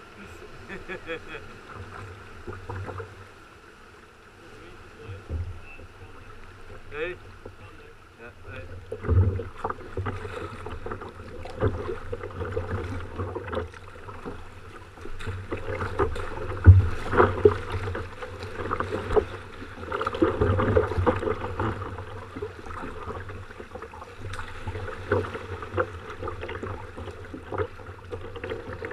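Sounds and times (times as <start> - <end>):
kayak paddle splashing water: 0.0 - 28.9.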